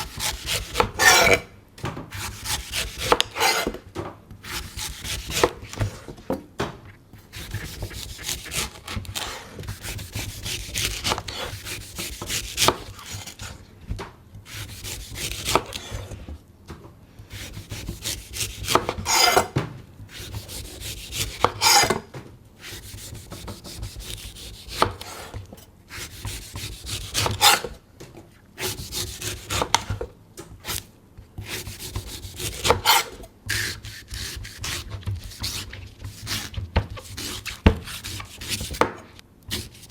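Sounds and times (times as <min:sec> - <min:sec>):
knife scraping coconut: 0:00.0 - 0:01.5, 0:02.1 - 0:03.8, 0:04.4 - 0:06.1, 0:07.3 - 0:13.6, 0:14.5 - 0:16.2, 0:17.3 - 0:22.0, 0:22.6 - 0:27.8, 0:28.6 - 0:29.9, 0:30.6 - 0:38.8, 0:39.5 - 0:39.9.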